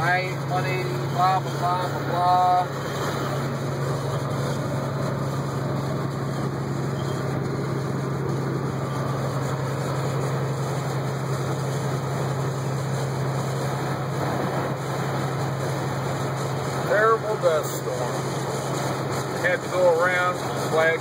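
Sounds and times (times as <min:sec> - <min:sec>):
road and wind noise: 0:00.0 - 0:21.0
truck engine drone: 0:00.0 - 0:21.0.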